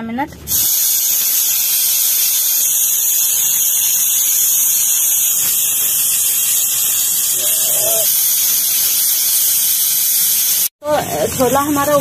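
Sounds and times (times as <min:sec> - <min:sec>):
pressure cooker hissing: 0:00.5 - 0:12.0.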